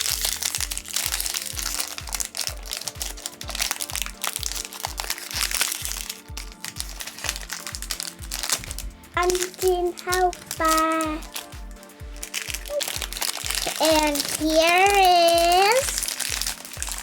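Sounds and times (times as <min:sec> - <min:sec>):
electronic music with steady beat: 0:00.0 - 0:17.0
toy packaging crinkling: 0:00.0 - 0:17.0.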